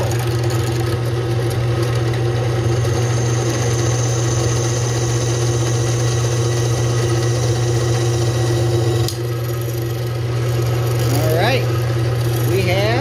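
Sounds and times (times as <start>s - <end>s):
drill press motor hum: 0.0s - 13.0s
drill bit whine cutting steel: 2.4s - 13.0s.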